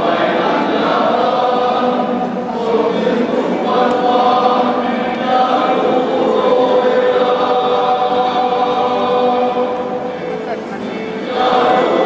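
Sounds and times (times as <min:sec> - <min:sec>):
men's choir singing: 0:00.0 - 0:12.0.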